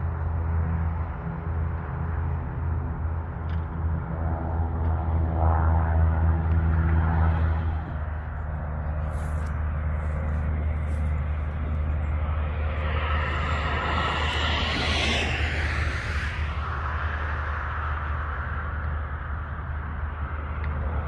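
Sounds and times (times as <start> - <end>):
engine rumble: 0.0 - 21.0.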